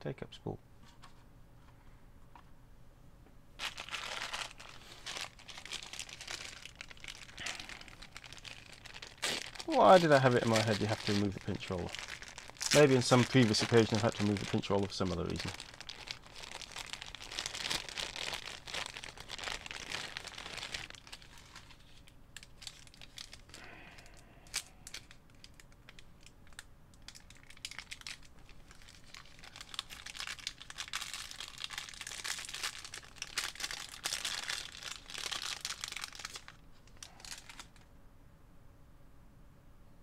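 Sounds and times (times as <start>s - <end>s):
crinkly packaging crackling: 3.6s - 37.9s.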